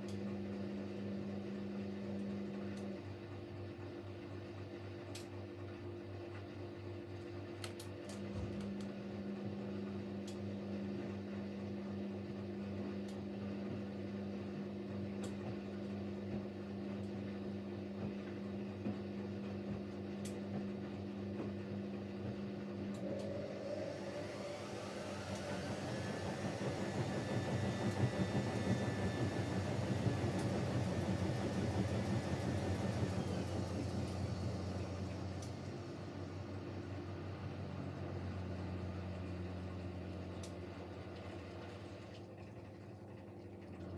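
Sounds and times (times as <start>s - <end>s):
washing machine humming: 0.0s - 43.9s
washing machine spin whine: 0.0s - 43.9s.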